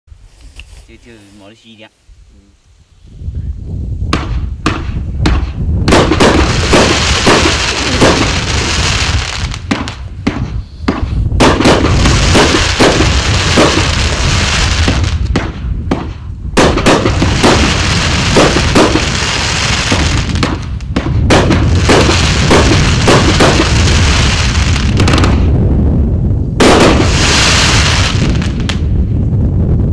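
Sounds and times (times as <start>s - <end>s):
fireworks crackling hiss: 0.2s - 3.3s, 5.9s - 15.3s, 16.2s - 25.4s, 26.6s - 29.0s.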